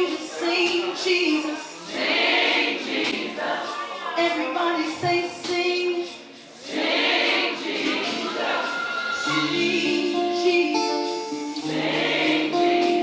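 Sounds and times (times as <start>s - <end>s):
gospel choir singing: 0.0s - 13.0s.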